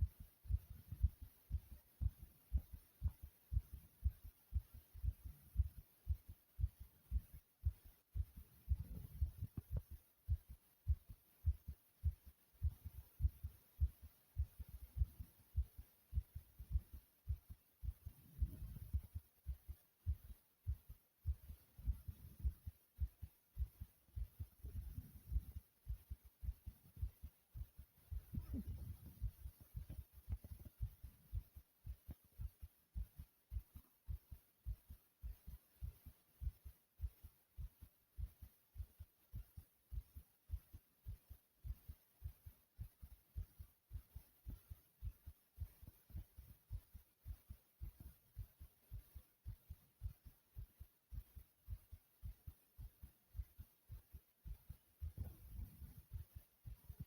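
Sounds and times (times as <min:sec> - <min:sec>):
fast heartbeat thumps: 0:00.0 - 0:57.0.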